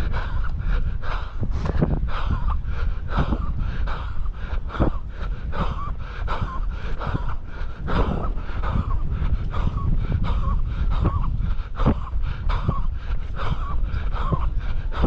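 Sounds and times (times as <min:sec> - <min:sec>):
runner breathing hard: 0:00.0 - 0:15.0.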